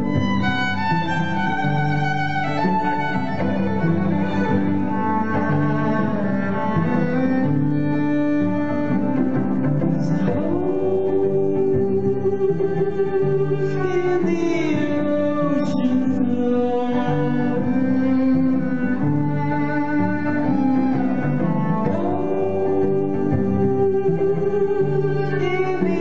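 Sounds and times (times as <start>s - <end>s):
bowed violin long held notes: 0.0s - 26.0s.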